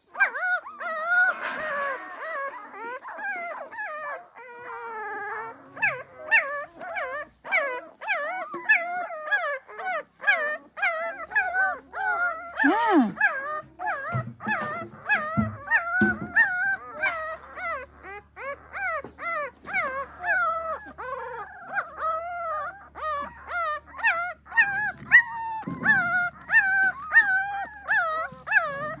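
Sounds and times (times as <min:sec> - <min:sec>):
puppies whimpering: 0:00.0 - 0:29.0.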